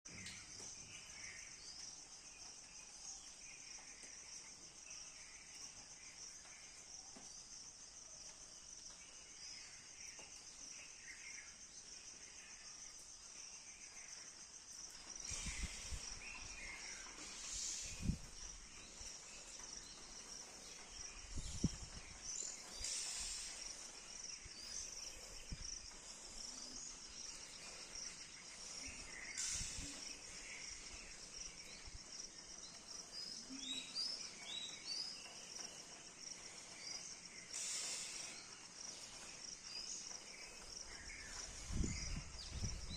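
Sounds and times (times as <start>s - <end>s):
faint bird chirps: 0.1s - 42.9s
insects trilling: 0.1s - 42.9s.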